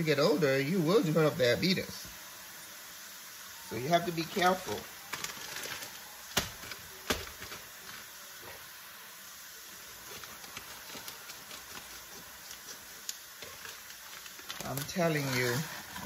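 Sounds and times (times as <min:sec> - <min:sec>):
cauliflower sizzling in a pot: 0:00.0 - 0:16.0.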